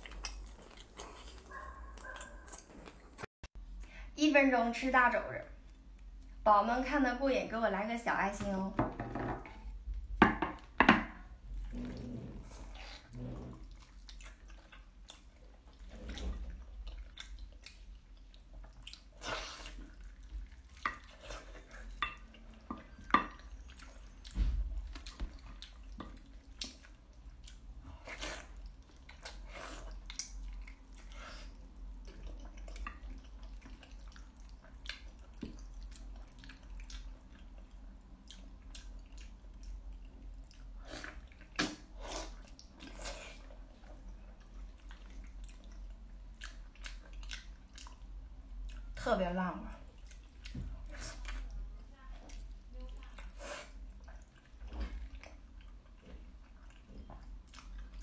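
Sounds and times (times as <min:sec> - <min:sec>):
wet chewing and lip smacks: 0:00.0 - 0:03.3, 0:13.6 - 0:49.0, 0:49.8 - 0:58.0.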